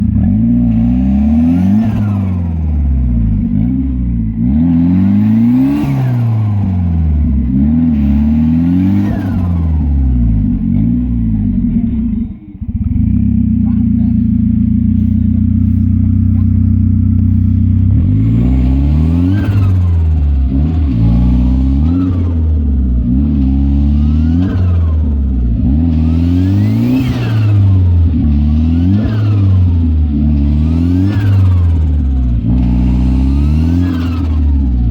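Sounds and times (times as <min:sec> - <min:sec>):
turbocharged car engine revving: 0:00.0 - 0:34.9.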